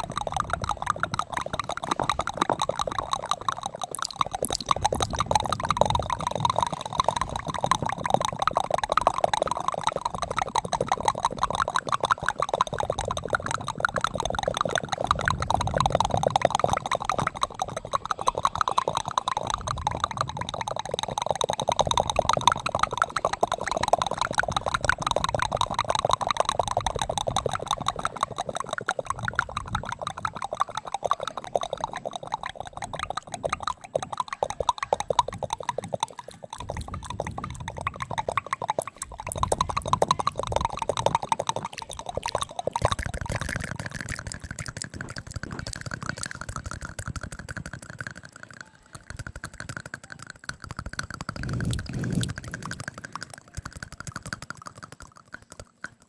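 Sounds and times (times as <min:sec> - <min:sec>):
wet mouth clicks and smacks: 0:00.0 - 0:56.0.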